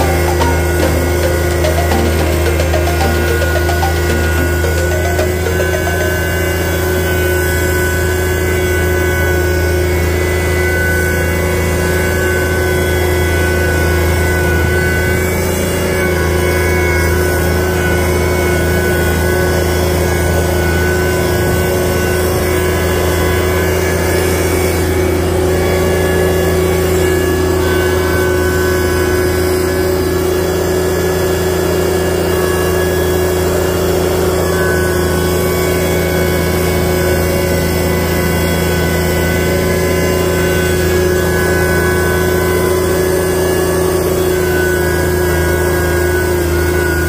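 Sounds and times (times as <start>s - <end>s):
tractor engine droning: 0.0s - 47.0s.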